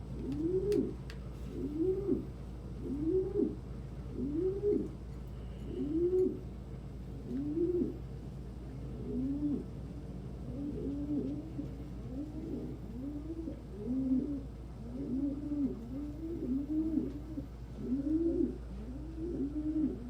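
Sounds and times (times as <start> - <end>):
pigeons cooing: 0.0 - 5.0, 5.6 - 6.5, 7.2 - 8.1, 8.8 - 20.0.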